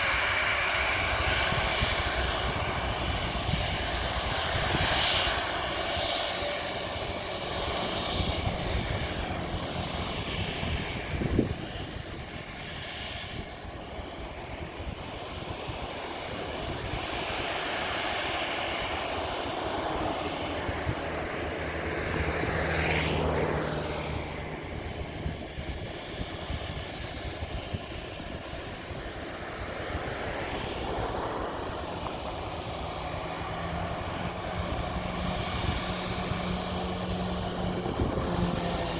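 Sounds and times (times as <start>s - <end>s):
jet engines rushing: 0.0s - 38.9s.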